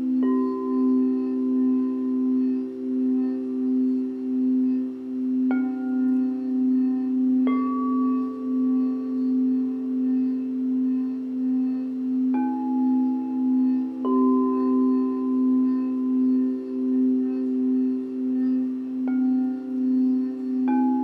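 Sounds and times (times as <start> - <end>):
low singing bowl humming: 0.0 - 21.0
singing bowls struck ringing: 0.0 - 21.0.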